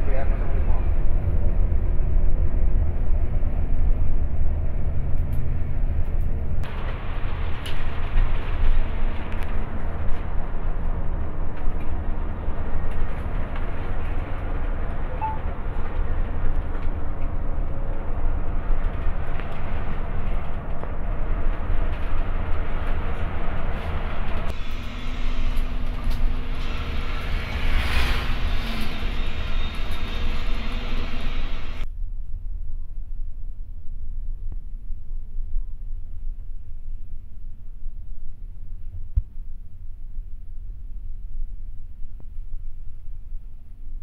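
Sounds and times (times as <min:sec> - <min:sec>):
bus engine and road rumble: 0:00.0 - 0:44.0.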